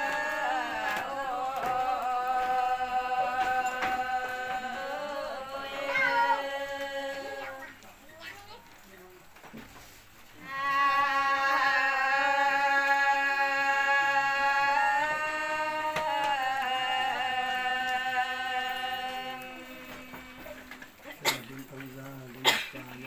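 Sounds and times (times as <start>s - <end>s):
women singing together: 0.0s - 8.0s, 10.3s - 21.4s.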